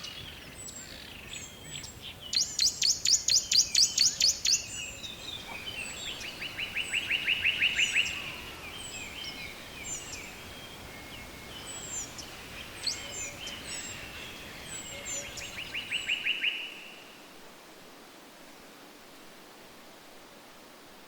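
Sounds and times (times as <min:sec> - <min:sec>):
songbirds singing and chirping: 0:00.0 - 0:17.3
faint steady hiss: 0:00.0 - 0:21.0.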